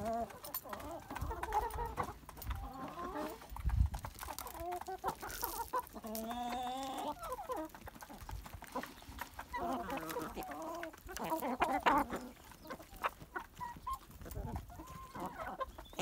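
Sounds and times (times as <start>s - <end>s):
beaks pecking grain: 0.0s - 16.0s
chickens clucking and calling: 0.0s - 16.0s.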